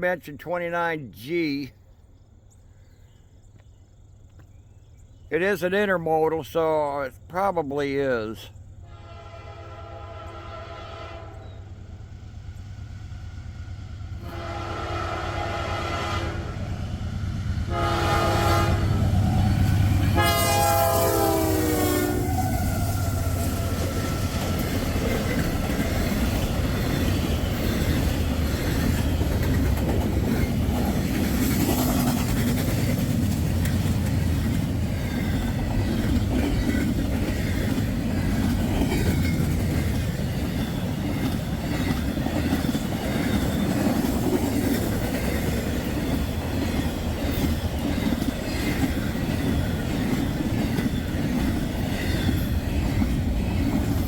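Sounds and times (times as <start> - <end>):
freight train rumbling on rails: 5.0 - 54.0.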